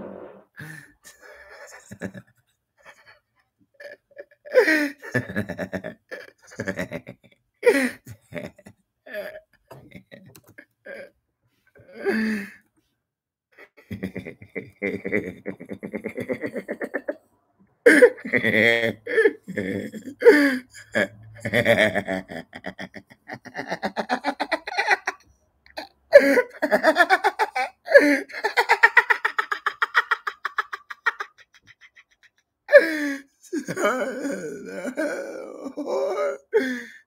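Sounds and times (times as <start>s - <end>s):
man laughing: 0.6s - 2.3s, 3.8s - 11.1s, 13.6s - 17.2s, 17.9s - 37.0s.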